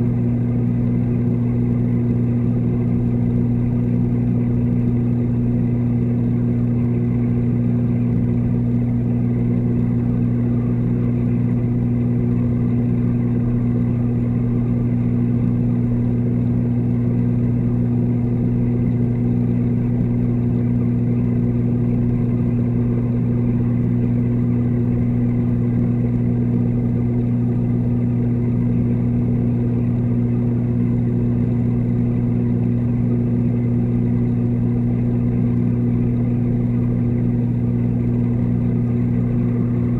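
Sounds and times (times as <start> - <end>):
aquarium pumps humming underwater: 0.0 - 39.9.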